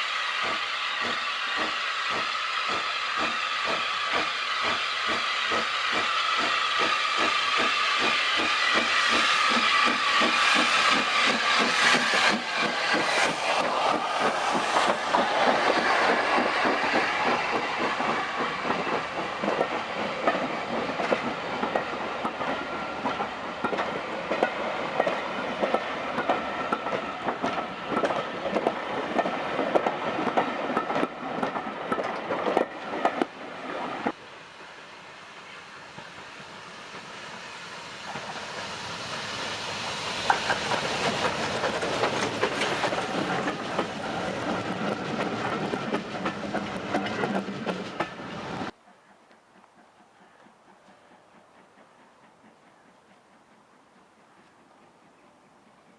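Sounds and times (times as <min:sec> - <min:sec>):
train wheels clicking over rail joints: 0:00.0 - 0:34.2, 0:38.0 - 0:55.9.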